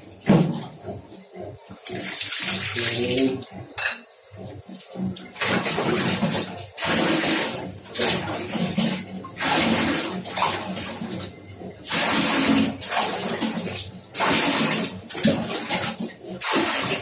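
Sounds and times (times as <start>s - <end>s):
water pouring and splashing: 0.0s - 3.7s, 4.3s - 17.0s.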